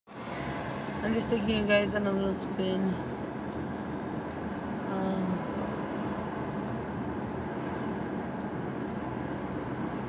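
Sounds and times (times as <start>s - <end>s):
car cabin road and engine rumble: 0.1s - 10.0s.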